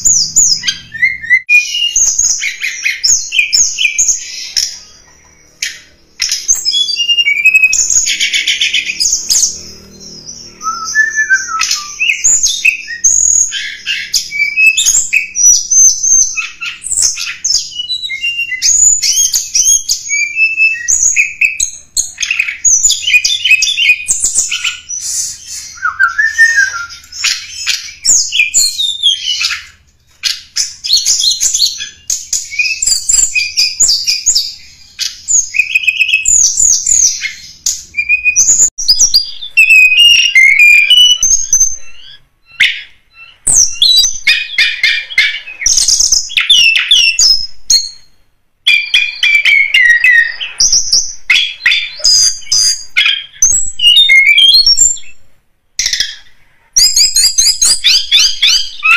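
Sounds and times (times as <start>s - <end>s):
songbird chirping and trilling: 0.0s - 58.9s.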